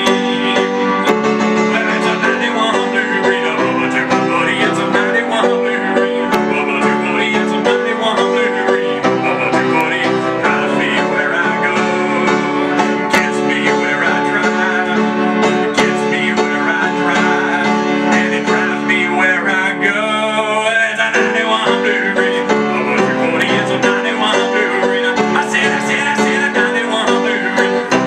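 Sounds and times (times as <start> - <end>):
upright piano chords: 0.0 - 28.0.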